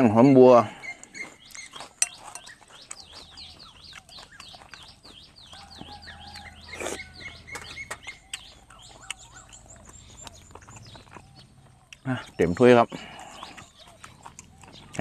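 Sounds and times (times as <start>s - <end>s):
bird chirping: 0.0s - 15.0s
chewing: 0.7s - 15.0s.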